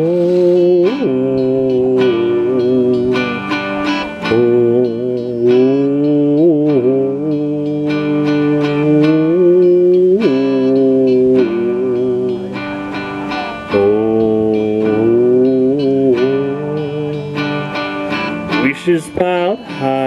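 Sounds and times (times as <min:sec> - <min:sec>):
sliding guitar notes: 0:00.0 - 0:20.0.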